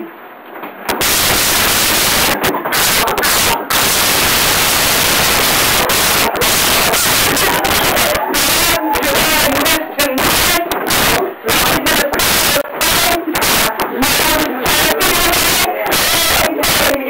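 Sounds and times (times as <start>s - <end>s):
harsh static noise: 0.0s - 17.0s.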